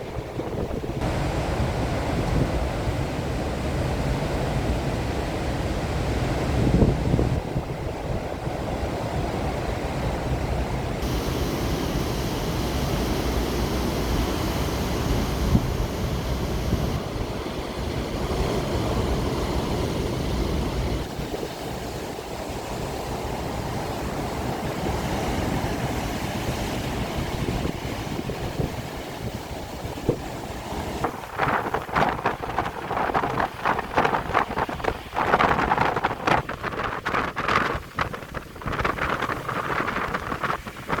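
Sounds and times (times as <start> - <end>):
storm surf breaking: 0.0 - 41.0
wind rumbling on microphone: 0.0 - 41.0.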